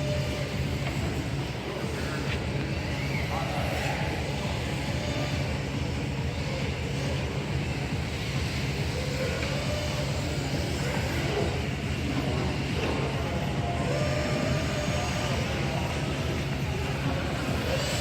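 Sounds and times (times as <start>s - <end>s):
low hum of hall noise: 0.0s - 18.0s
rc car motors whining: 0.0s - 18.0s.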